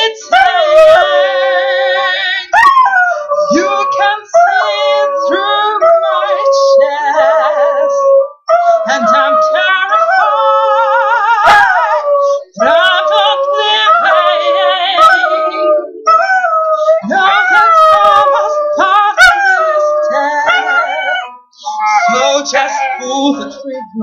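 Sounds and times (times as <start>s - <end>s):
woman singing: 0.0s - 24.0s
dog howling: 0.3s - 23.9s.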